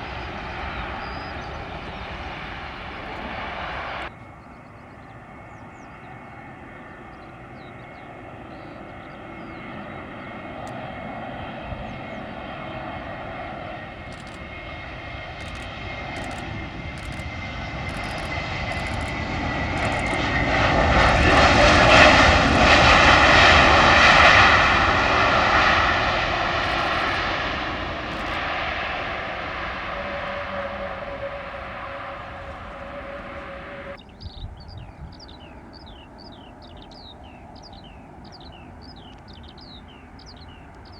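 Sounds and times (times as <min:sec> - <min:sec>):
jet airliner passing: 0:00.0 - 0:40.9
jet engine whine: 0:00.0 - 0:40.9.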